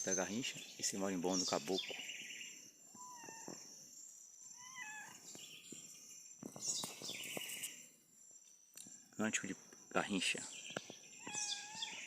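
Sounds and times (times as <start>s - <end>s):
high insect drone: 0.0s - 12.0s
wren singing trilled phrases: 0.0s - 12.0s.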